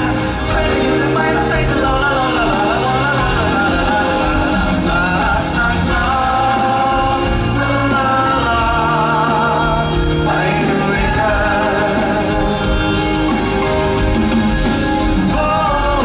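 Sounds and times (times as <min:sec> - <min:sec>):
man singing into a microphone: 0:00.0 - 0:13.4, 0:15.2 - 0:16.0
band accompaniment: 0:00.0 - 0:16.0.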